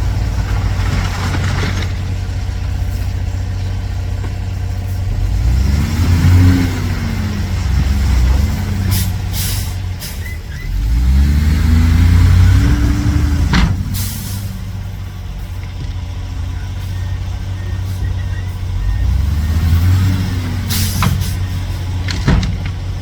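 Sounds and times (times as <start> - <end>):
diesel truck engine idling and revving: 0.0 - 23.0.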